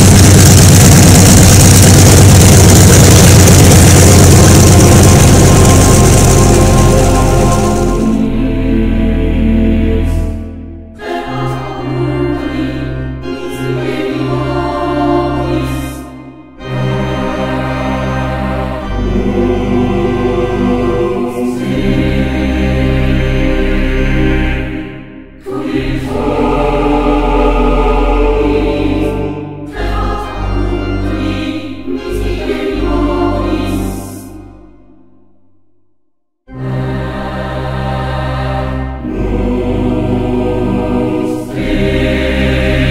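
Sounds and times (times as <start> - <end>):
choir singing held notes: 1.4 - 34.7, 36.5 - 42.9.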